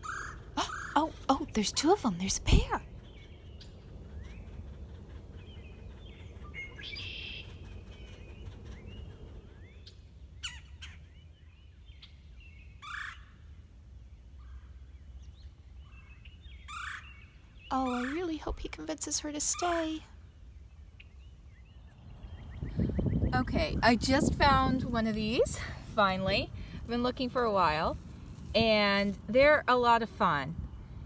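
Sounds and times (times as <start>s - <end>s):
steady low background rumble: 0.0s - 12.6s, 13.6s - 31.0s
wild birds calling and singing: 0.0s - 13.3s, 14.4s - 29.5s.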